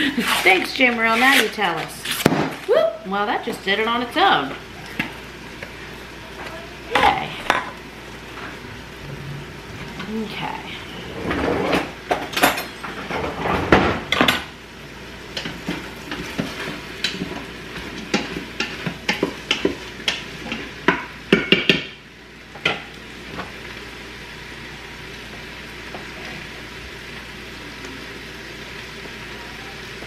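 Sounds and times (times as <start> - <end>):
faint sizzle of vegetables: 0.0 - 30.0.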